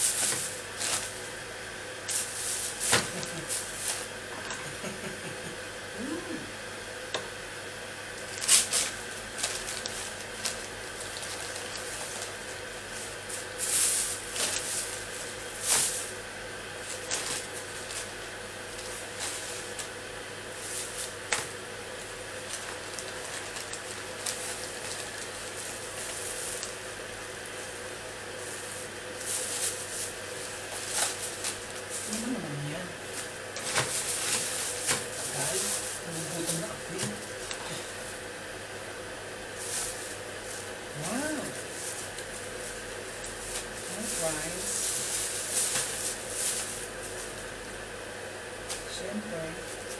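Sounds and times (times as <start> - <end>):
bags rustling and crinkling: 0.0 - 1.4, 2.1 - 4.2, 8.3 - 16.2, 16.8 - 38.3, 39.5 - 47.6
faint steady hum: 0.0 - 49.9.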